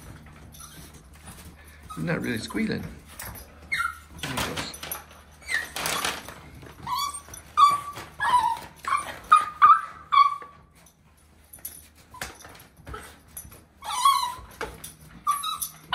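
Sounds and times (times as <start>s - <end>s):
dog whining and whimpering: 0.0s - 15.9s.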